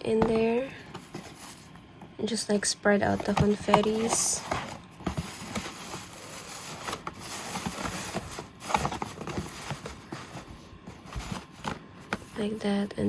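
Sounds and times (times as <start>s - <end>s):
paper rustling and crinkling: 0.2s - 1.8s, 3.0s - 12.8s.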